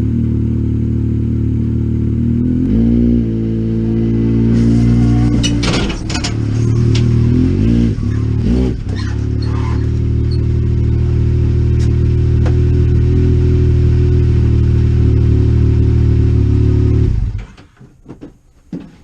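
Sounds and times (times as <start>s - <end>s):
vehicle engine running: 0.0s - 17.6s.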